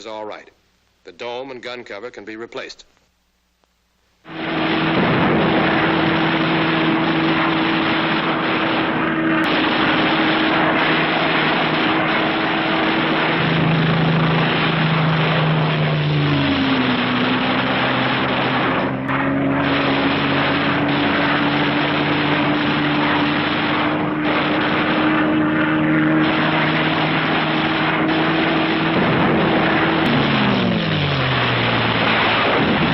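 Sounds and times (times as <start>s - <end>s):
aircraft piston engines running: 4.3s - 32.9s.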